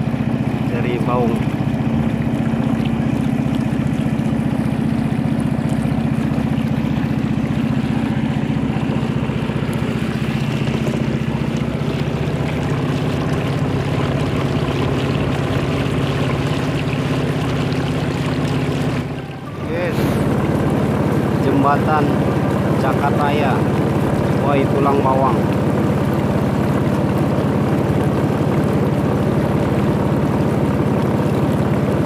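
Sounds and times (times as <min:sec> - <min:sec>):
boat motor humming: 0:00.0 - 0:32.0
water noise: 0:00.0 - 0:32.0.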